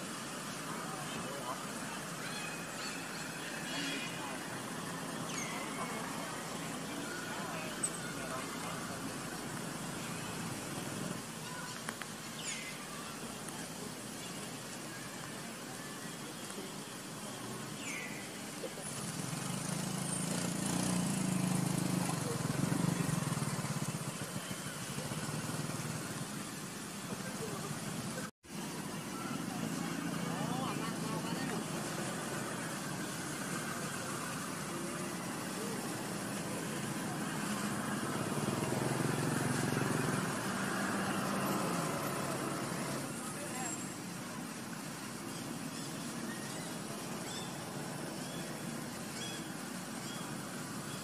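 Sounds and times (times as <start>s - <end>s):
outdoor hiss: 0.0s - 51.0s.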